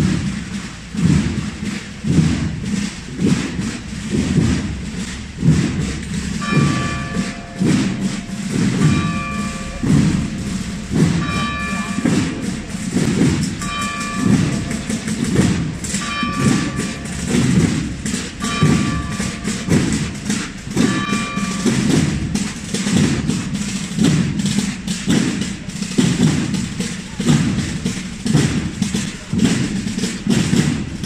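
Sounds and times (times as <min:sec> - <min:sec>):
drums beating steady rhythm: 0:00.0 - 0:31.0
shawm held notes: 0:00.7 - 0:31.0.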